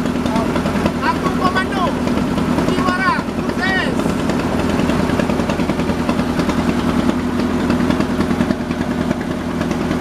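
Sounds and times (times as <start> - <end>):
boat engine puttering: 0.0 - 10.0.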